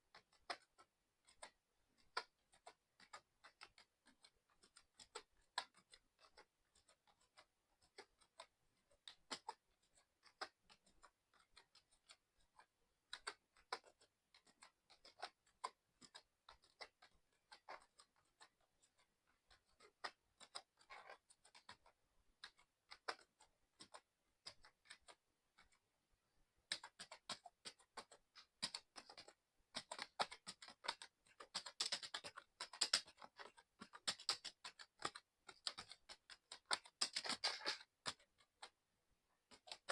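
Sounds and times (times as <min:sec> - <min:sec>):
mechanical keyboard typing: 0:00.1 - 0:25.8, 0:26.6 - 0:38.8, 0:39.4 - 0:39.9.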